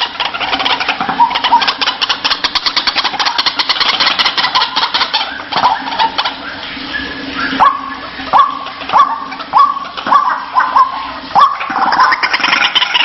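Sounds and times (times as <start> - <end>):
waterhen calling harshly: 0.0 - 13.0.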